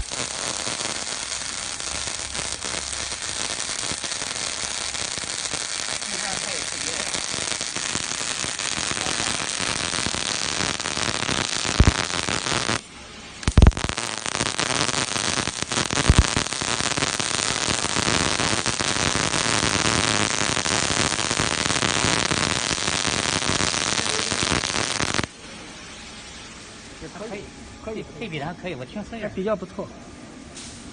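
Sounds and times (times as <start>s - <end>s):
welding arc crackling: 0.0s - 25.3s
welding arc pops: 0.0s - 25.3s.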